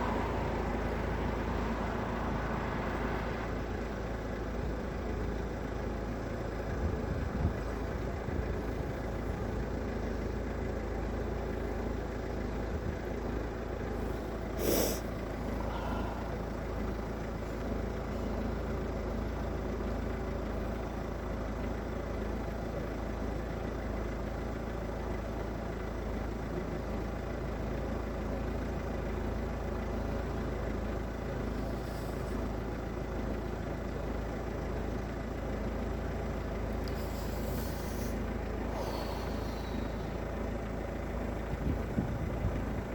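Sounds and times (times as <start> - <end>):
low rumble of vehicles: 0.0 - 42.9.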